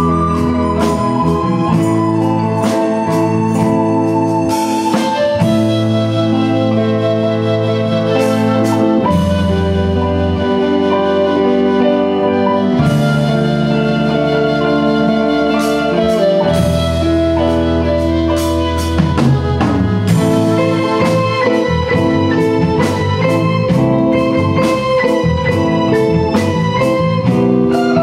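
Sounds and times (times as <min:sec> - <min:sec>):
drum kit beat: 0:00.0 - 0:28.0
organ-like keyboard chords: 0:00.0 - 0:28.0.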